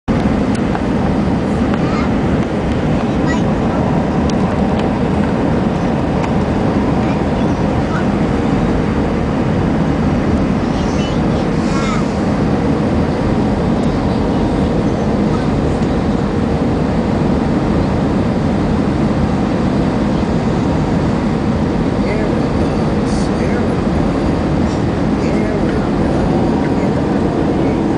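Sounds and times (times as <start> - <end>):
airplane cabin engine rushing: 0.1 - 27.9.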